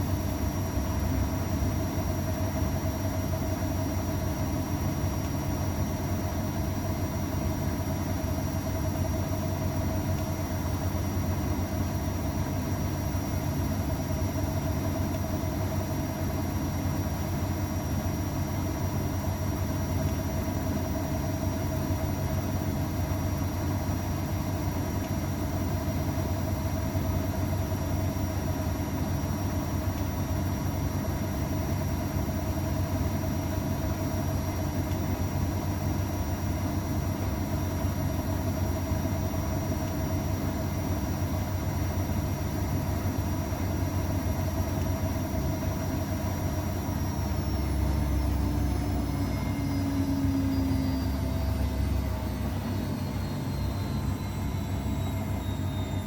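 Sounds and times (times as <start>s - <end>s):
washing machine motor hum: 0.0s - 56.0s
constant whining tones: 0.8s - 56.0s.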